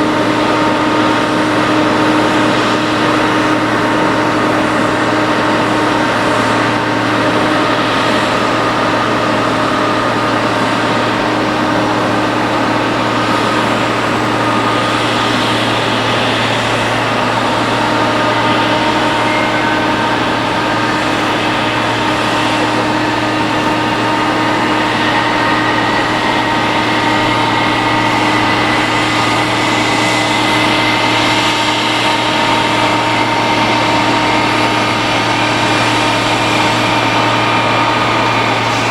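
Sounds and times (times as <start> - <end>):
jet engine whine: 0.0 - 38.9.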